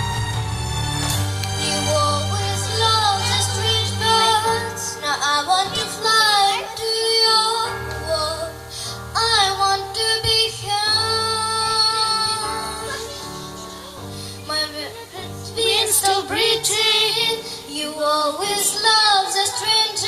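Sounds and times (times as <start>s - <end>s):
instrumental backing track: 0.0s - 20.0s
girl singing: 1.6s - 20.0s.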